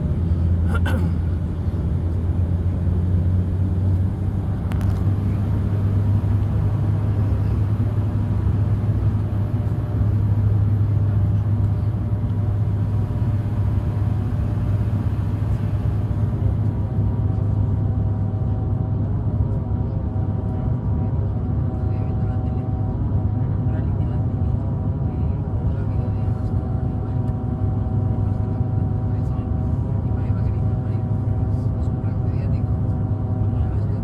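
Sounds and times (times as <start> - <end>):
propeller hum: 0.0 - 34.0.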